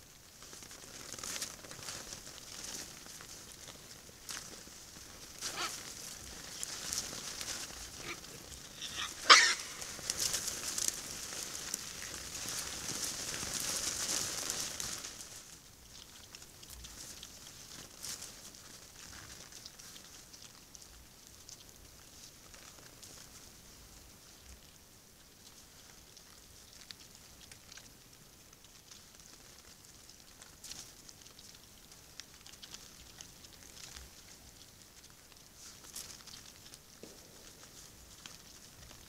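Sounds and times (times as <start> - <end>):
crackling and rustling in leaves: 0.0 - 39.0.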